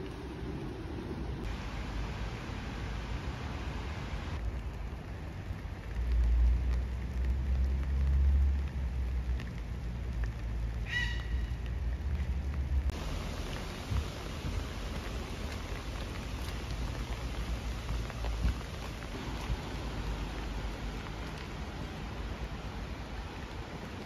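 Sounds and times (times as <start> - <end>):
rain hissing: 0.0 - 24.0.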